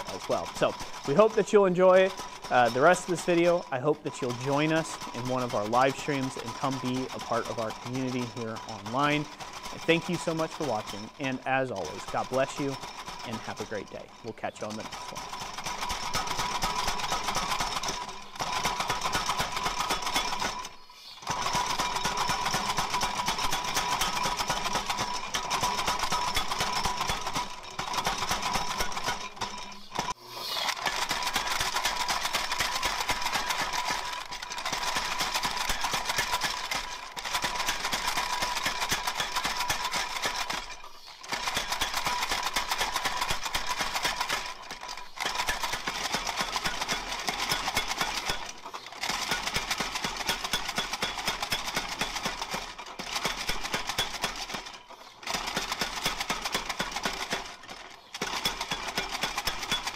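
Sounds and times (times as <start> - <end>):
power hammer pounding steel: 0.0 - 59.9.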